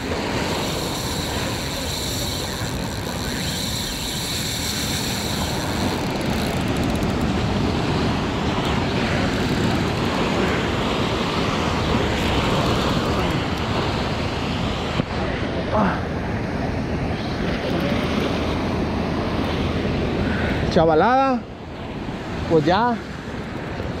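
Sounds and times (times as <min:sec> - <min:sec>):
surf rushing: 0:00.0 - 0:24.0
wind: 0:00.0 - 0:24.0.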